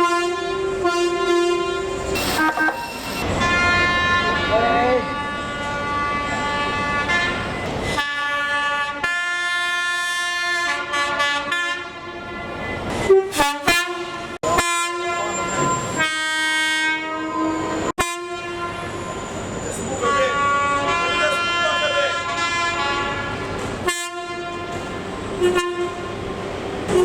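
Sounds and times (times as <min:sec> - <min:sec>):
train horn blasts: 0:00.0 - 0:26.2.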